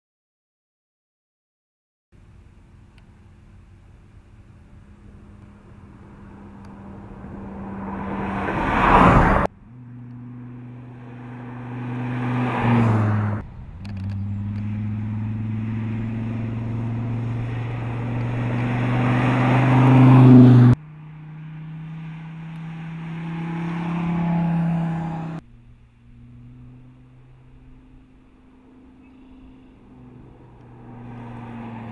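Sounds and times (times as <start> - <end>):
car engine running under load: 2.2 - 31.9.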